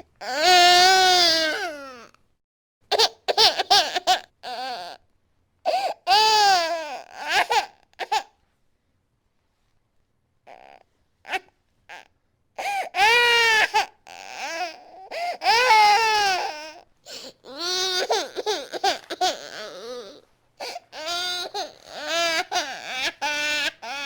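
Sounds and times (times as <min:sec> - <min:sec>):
baby crying: 0:00.0 - 0:02.1, 0:02.9 - 0:05.0, 0:05.7 - 0:08.3, 0:10.5 - 0:24.0.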